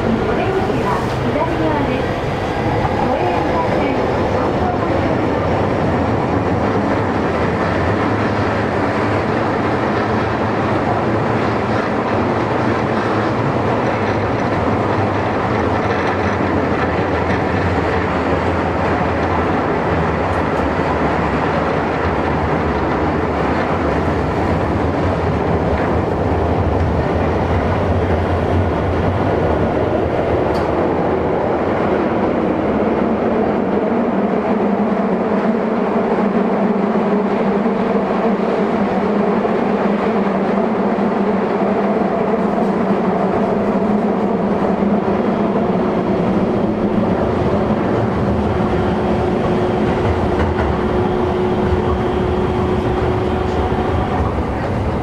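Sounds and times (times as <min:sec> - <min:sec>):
subway train wheels rumbling on rail: 0:00.0 - 0:55.0.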